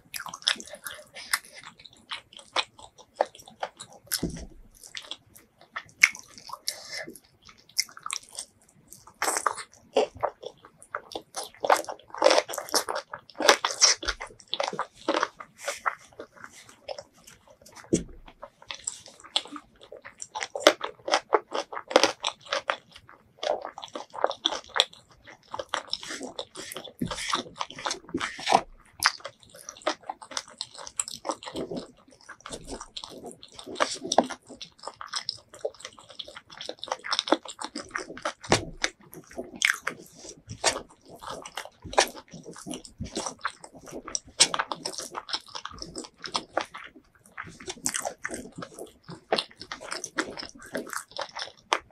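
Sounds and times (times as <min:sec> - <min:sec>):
person chewing food: 0:00.0 - 0:51.9
wet mouth smacks and crunches: 0:00.1 - 0:51.9.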